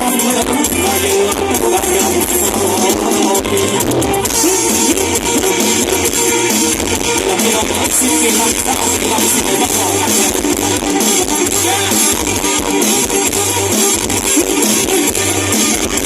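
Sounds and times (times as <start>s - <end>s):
live band dance music: 0.0s - 16.0s.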